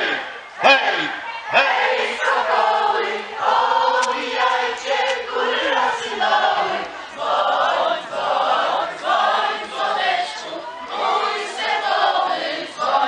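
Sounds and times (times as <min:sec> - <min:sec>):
group of people singing in chorus: 0:00.0 - 0:13.0.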